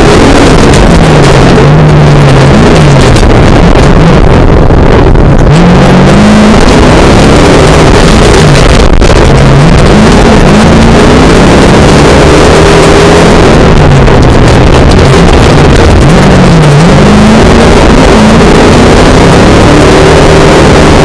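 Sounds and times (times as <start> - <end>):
race car engine from inside: 0.0 - 21.0
road noise rushing: 0.0 - 21.0.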